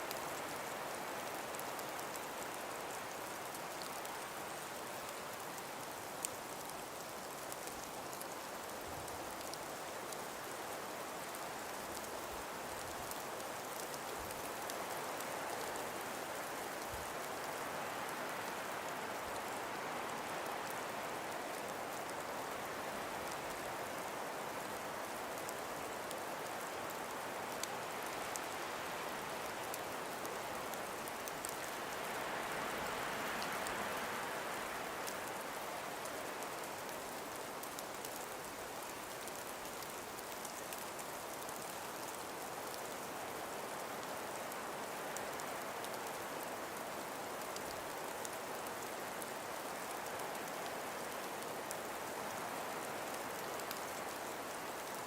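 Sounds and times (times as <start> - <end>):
faint scattered ticks: 0.0 - 55.0
wind hissing through trees: 0.0 - 55.0.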